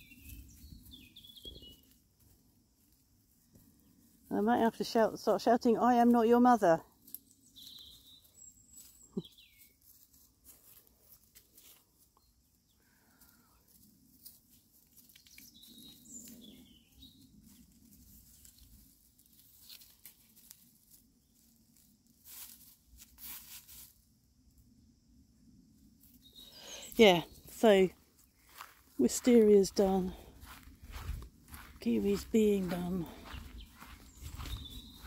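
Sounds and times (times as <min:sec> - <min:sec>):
chickens scratching in dry leaves: 0:00.0 - 0:24.2, 0:26.0 - 0:35.0.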